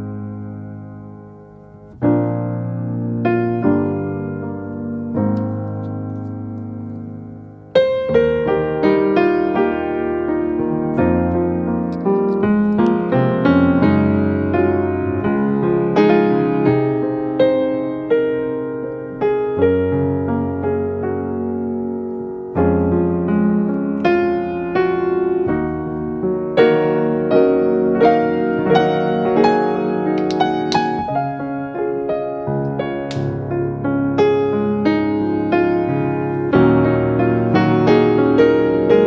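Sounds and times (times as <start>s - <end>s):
piano notes and chords: 0.0s - 39.0s.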